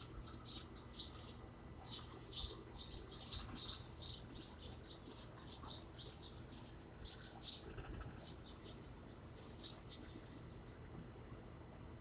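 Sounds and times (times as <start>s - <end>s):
bird chirping: 0.0s - 10.6s
faint low hum: 0.0s - 12.0s.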